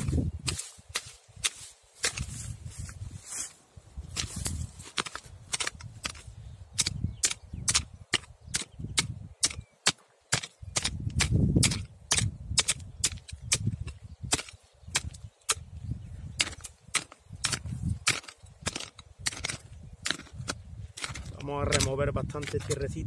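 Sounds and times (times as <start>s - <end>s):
hand hoe chopping earth: 0.0s - 2.9s, 4.1s - 15.7s, 16.3s - 22.9s.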